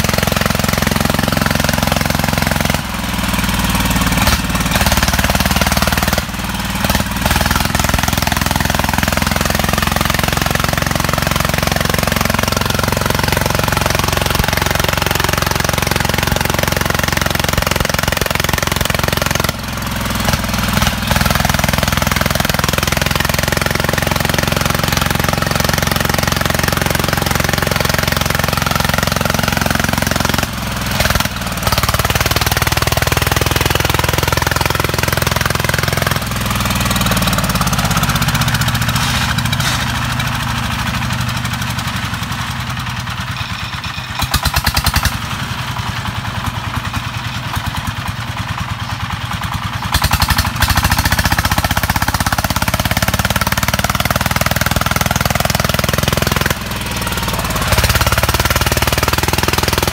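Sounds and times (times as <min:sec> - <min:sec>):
diesel engine knocking: 0:00.0 - 0:59.9.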